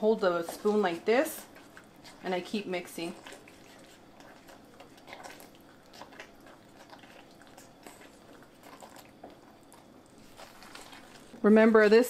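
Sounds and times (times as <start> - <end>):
wet squishing of thick paste: 0.2 - 11.5.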